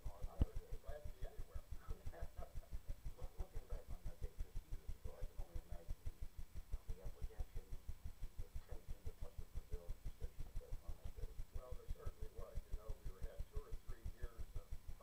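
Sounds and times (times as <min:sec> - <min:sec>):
low rhythmic thumping: 0:00.0 - 0:15.0
muffled men's conversation: 0:00.0 - 0:15.0.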